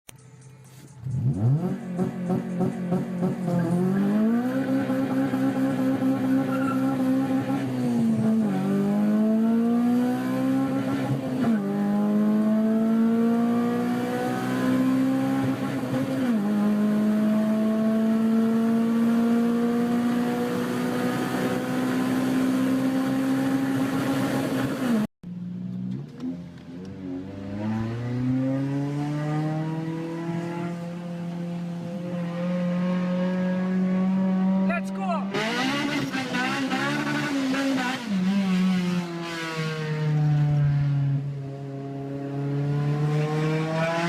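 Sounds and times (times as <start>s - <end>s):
car engine accelerating: 0.1s - 44.0s.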